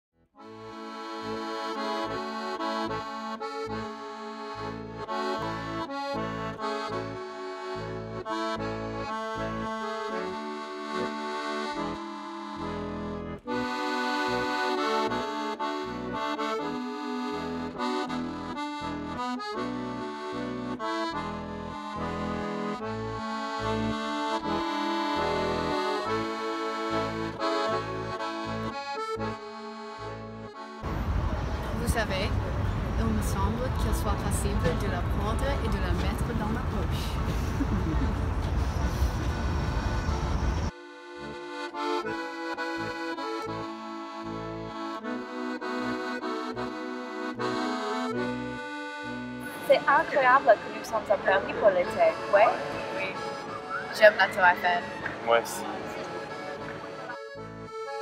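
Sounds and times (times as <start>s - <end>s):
lively accordion music: 0.3s - 58.0s.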